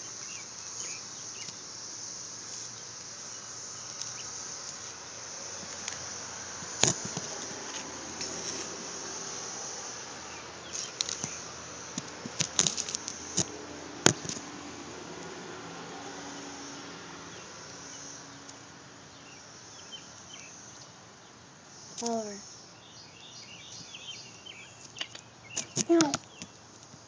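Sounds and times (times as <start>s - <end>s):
cicada fluttering and buzzing: 0.0s - 27.0s
steady high hiss: 0.0s - 27.0s.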